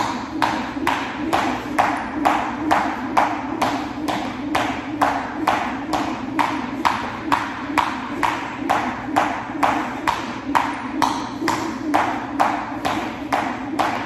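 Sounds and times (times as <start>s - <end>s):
jump rope slapping the floor: 0.0s - 14.0s.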